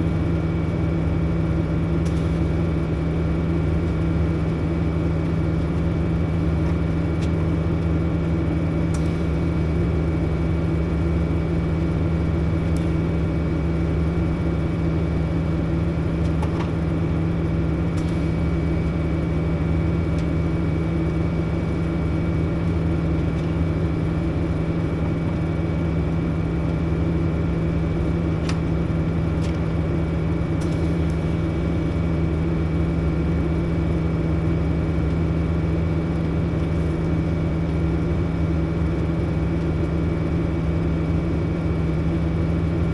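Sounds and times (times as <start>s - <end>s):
machine hum with high whine: 0.0s - 42.9s.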